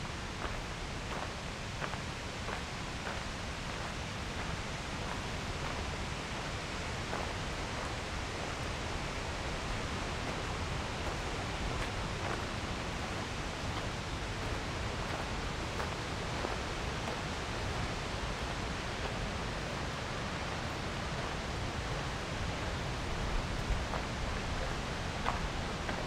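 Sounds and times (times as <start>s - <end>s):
rushing falling water: 0.0s - 26.0s.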